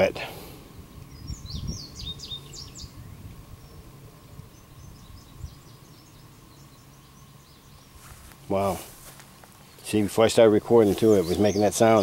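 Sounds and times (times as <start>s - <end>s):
songbird chirps: 0.0s - 12.0s
steady low hum: 0.0s - 12.0s.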